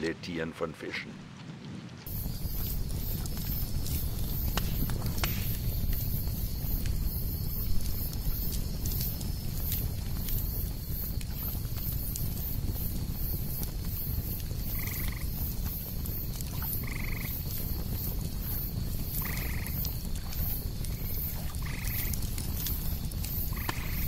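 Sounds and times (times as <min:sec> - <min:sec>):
steady low rumble: 0:02.1 - 0:24.0.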